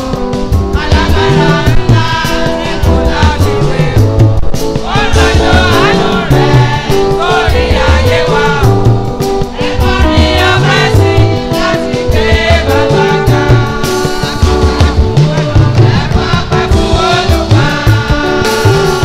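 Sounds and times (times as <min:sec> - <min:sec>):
steady beat: 0:00.0 - 0:19.0
voices singing gospel song: 0:00.0 - 0:19.0
moving bass line: 0:00.6 - 0:19.0.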